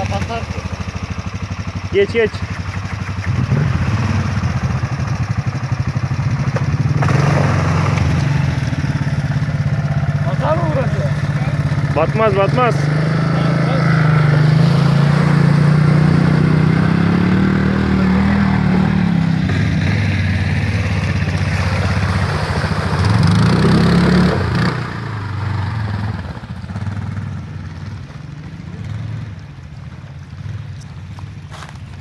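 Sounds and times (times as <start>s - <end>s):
atv engines running: 0.0s - 32.0s
water splashing from wheels: 0.0s - 32.0s.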